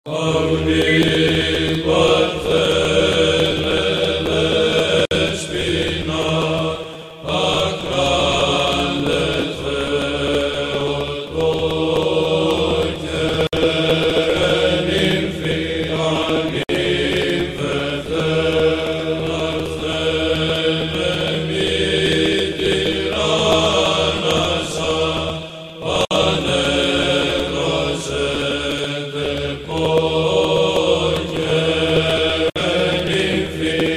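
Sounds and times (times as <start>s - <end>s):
voices chanting: 0.1s - 33.9s.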